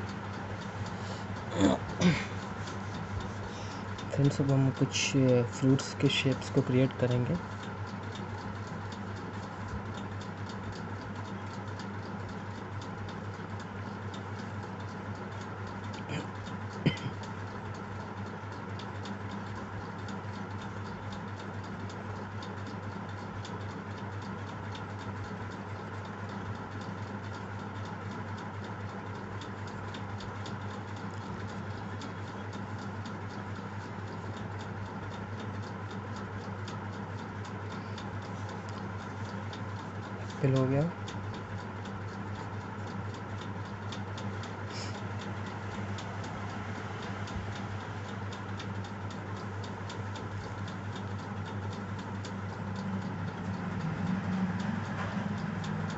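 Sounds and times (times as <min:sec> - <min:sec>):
fast even ticking: 0:00.0 - 0:55.9
steady low hum: 0:00.0 - 0:55.9.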